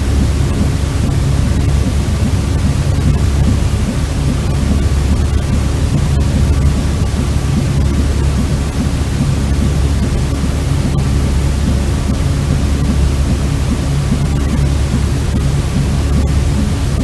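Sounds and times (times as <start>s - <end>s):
deep rumbling noise: 0.0s - 17.0s.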